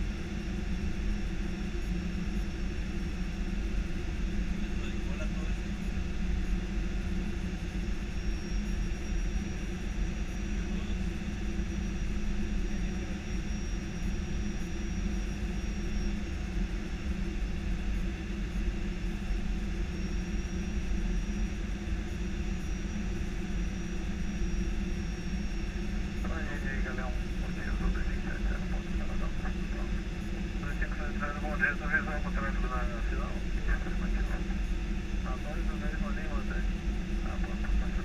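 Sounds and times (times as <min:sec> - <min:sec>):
aircraft cockpit rumble and hum: 0:00.0 - 0:38.0
faint high whine: 0:00.0 - 0:38.0.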